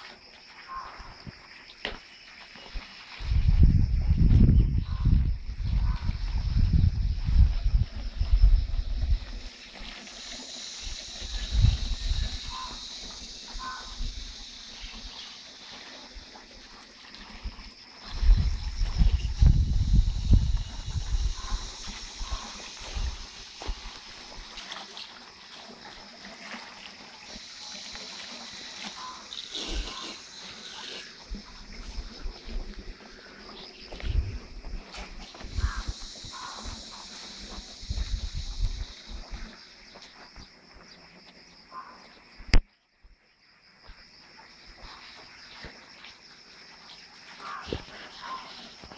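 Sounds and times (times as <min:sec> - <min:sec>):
jacuzzi jets bubbling: 0:00.0 - 0:42.6
water trickling and splashing: 0:00.0 - 0:42.6, 0:43.2 - 0:48.9
insects chirping: 0:00.0 - 0:48.9.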